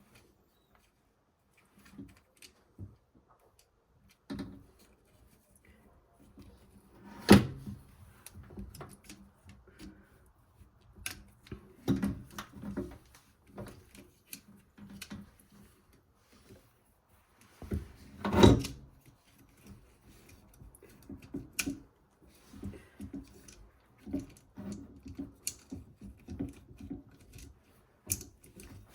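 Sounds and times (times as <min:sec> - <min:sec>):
clicks and rattles of hand work: 0:00.0 - 0:28.9.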